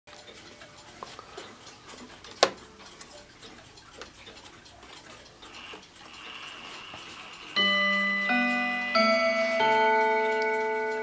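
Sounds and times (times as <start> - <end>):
clock ticking: 0.1 - 11.0.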